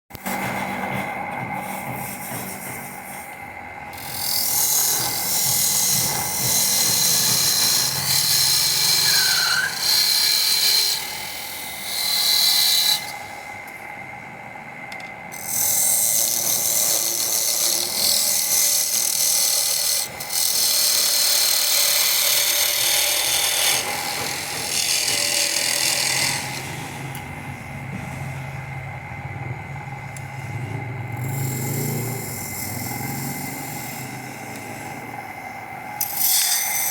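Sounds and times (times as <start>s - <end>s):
lathe tool shaving wood: 0.1s - 14.2s, 14.8s - 36.9s
faint machine whine: 0.1s - 36.9s.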